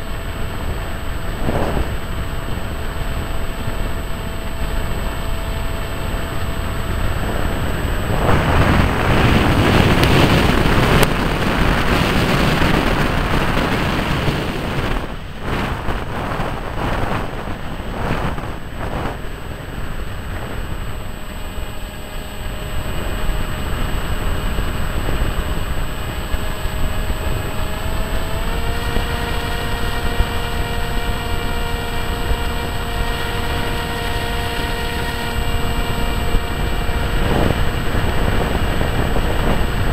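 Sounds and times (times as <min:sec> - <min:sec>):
model plane motor whine: 0:00.0 - 0:39.9
rushing wind: 0:00.0 - 0:39.9.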